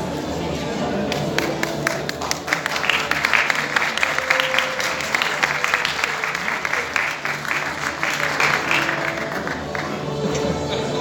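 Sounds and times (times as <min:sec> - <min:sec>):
background music: 0:00.0 - 0:11.0
audience applauding: 0:01.1 - 0:10.5.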